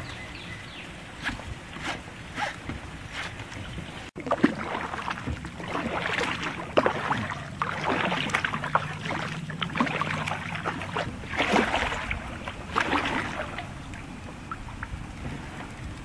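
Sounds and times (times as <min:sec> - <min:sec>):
paddle splashing in water: 0:00.8 - 0:16.0.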